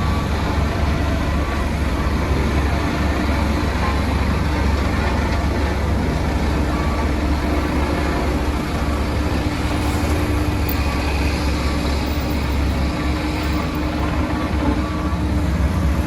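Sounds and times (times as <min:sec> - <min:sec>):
diesel machinery engine rumble: 0:00.0 - 0:16.0
steady machine hum: 0:00.0 - 0:16.0.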